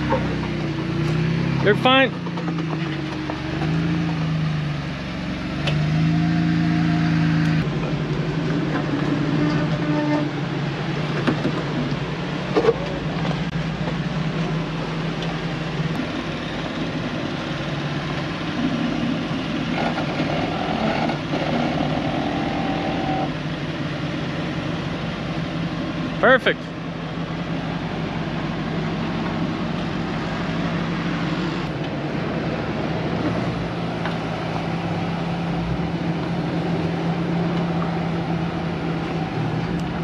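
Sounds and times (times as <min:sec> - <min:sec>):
off-road engines revving: 0:00.0 - 0:40.0.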